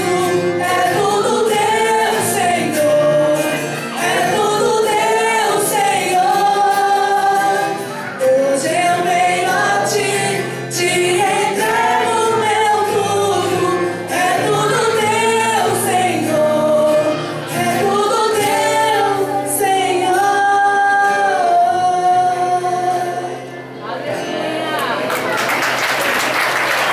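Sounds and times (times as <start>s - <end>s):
gospel song with accompaniment: 0.0s - 26.9s.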